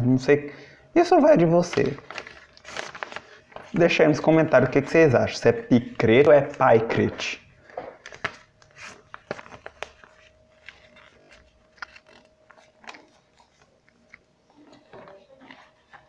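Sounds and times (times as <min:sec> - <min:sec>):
paper crinkling and rustling: 0:01.4 - 0:16.0.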